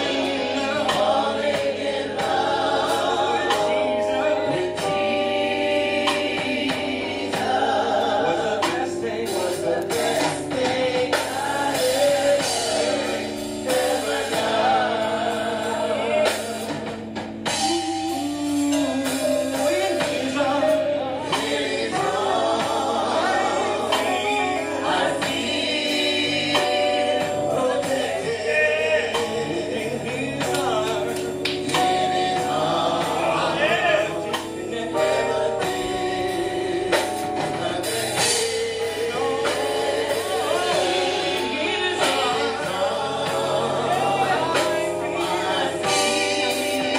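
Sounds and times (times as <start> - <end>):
band with drums: 0.0 - 46.9
choir singing gospel: 0.0 - 46.9.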